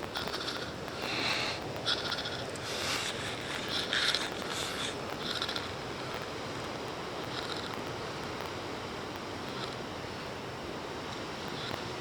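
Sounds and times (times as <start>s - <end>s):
sea washing: 0.0s - 12.0s.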